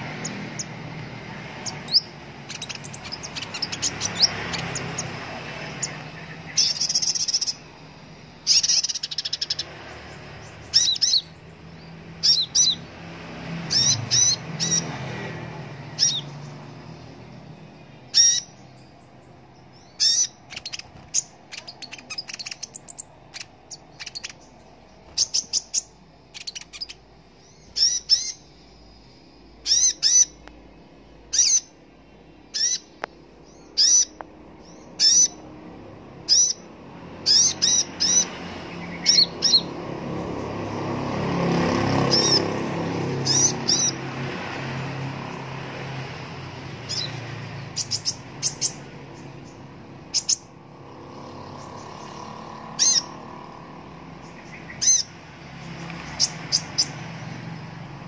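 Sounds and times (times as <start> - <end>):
sunbird chirping and twittering: 0.0 - 58.0.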